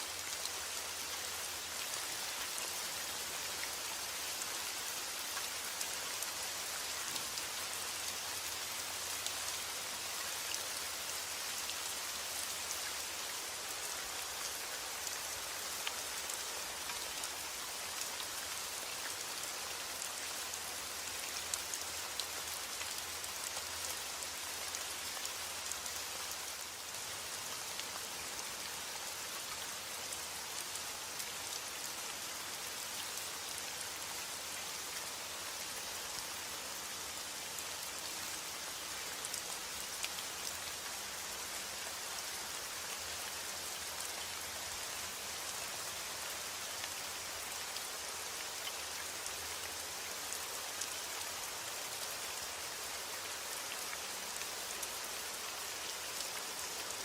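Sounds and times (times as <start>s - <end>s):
heavy rain on a roof: 0.0s - 57.0s.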